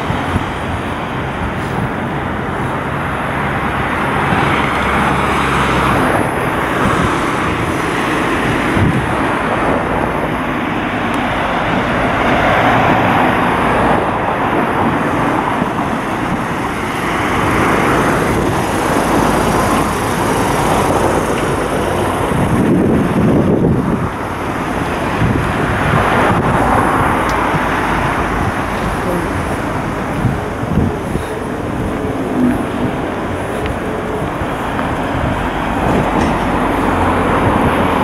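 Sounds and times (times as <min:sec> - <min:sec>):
street noise roar: 0:00.0 - 0:38.0.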